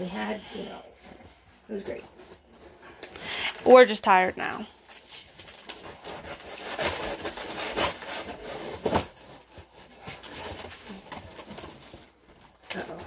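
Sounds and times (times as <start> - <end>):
cardboard packaging rustling: 0.0 - 13.0.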